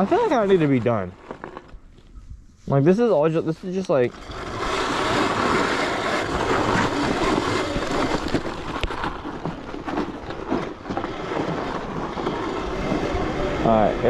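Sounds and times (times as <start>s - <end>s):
electric dirt bike riding rush: 0.0s - 1.7s, 3.8s - 14.0s
tyres crackling on ice: 0.0s - 2.2s, 3.2s - 14.0s.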